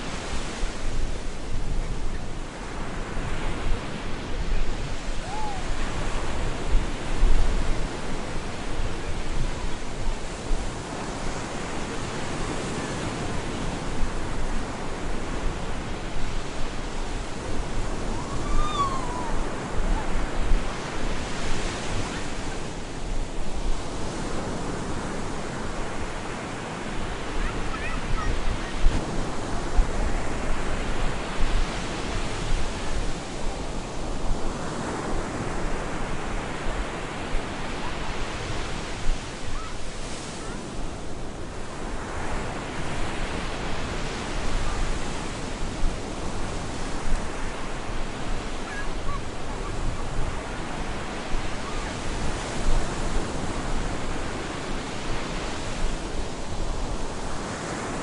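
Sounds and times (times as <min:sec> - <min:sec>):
waves breaking on beach: 0:00.0 - 0:58.0
wind: 0:00.0 - 0:58.0.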